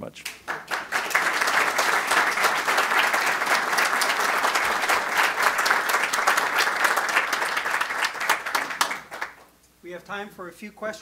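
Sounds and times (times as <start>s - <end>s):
audience applauding: 0.4s - 9.5s.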